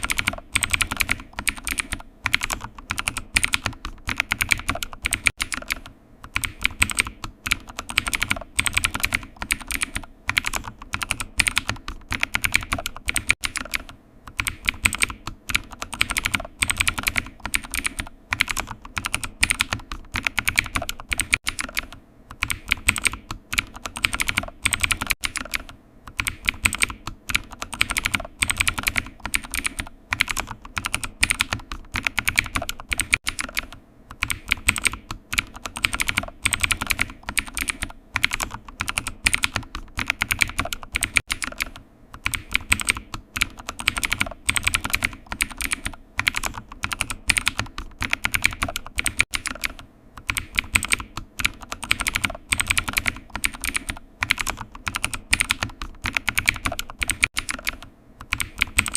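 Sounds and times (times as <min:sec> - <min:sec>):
computer keyboard typing: 0:00.0 - 0:58.9.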